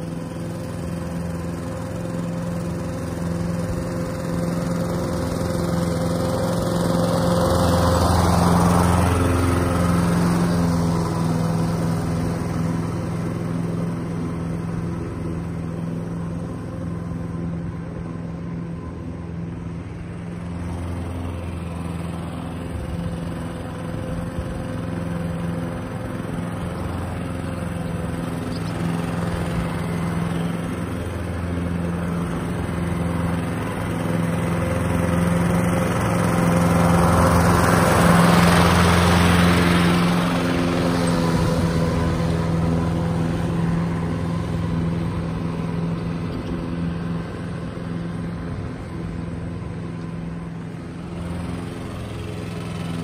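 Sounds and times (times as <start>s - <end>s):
lawn mower running: 0.0s - 53.0s.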